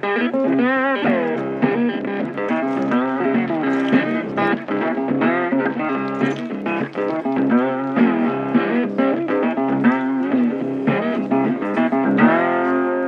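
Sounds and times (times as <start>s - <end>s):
bluesy electric guitar lead: 0.0s - 13.0s.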